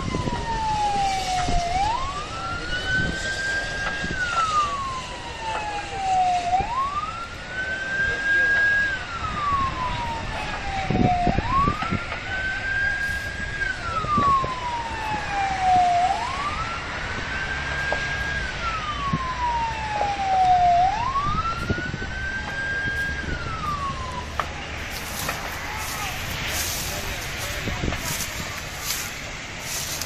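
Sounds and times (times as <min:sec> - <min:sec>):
fire engine siren wailing: 0:00.0 - 0:30.0.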